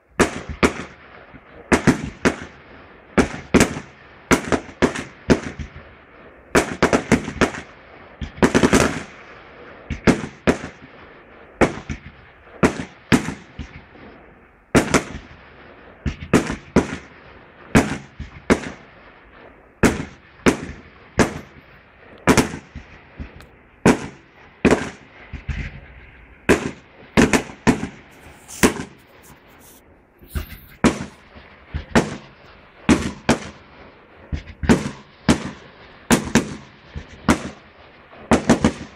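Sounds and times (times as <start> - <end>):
fireworks bursting with echo: 0.0 - 38.9.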